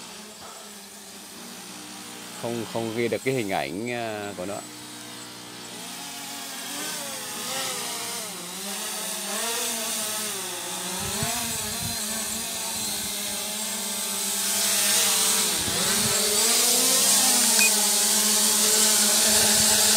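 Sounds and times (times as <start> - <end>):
drone propellers buzzing: 0.0 - 19.9.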